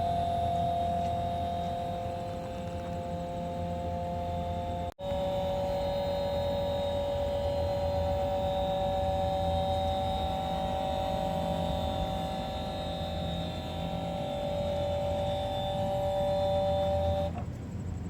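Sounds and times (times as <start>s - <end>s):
air conditioner two-note whine: 0.0s - 18.0s
low hum: 0.0s - 18.0s.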